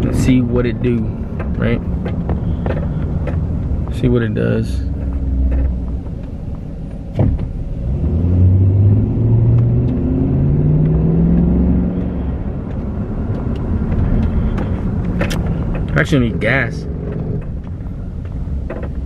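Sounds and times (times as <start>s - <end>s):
pickup truck engine accelerating: 0.0s - 19.0s.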